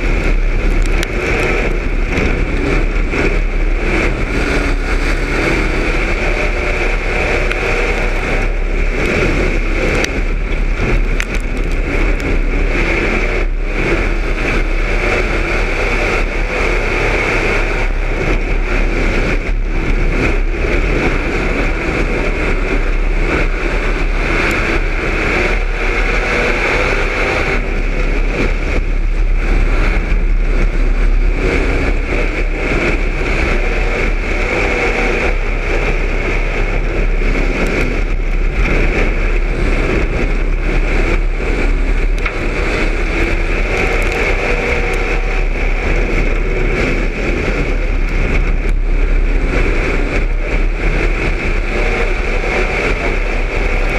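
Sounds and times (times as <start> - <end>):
car rattling: 0.0 - 53.9
race car engine revving: 0.0 - 53.9
rushing noise: 0.0 - 53.9.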